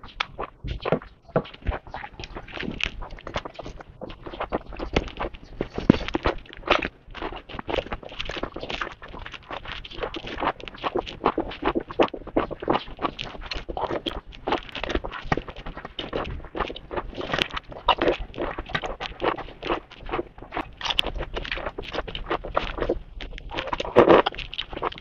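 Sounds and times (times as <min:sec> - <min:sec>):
biting and chewing crunches: 0:00.0 - 0:25.0
mouth sounds: 0:00.0 - 0:25.0.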